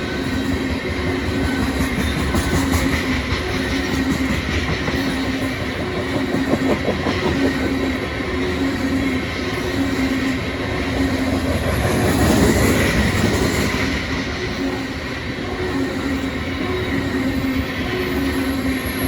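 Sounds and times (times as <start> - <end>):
train wheels clattering on rail: 0.0 - 19.0.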